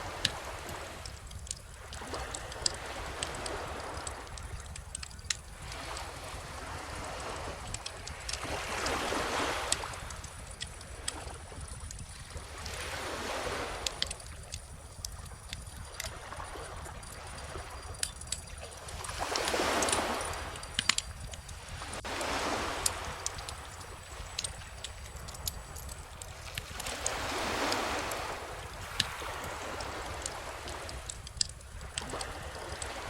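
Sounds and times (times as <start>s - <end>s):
small ocean waves washing: 0.0s - 33.0s
wood fire crackling: 0.0s - 33.0s.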